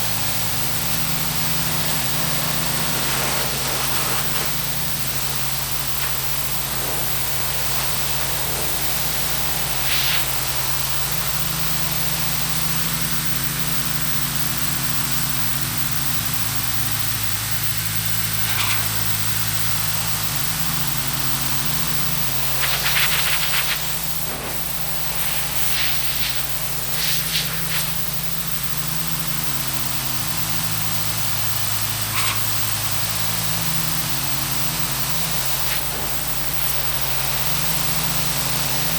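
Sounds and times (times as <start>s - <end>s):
pressure washer motor humming: 0.0s - 38.9s
water jet hissing: 0.0s - 38.9s.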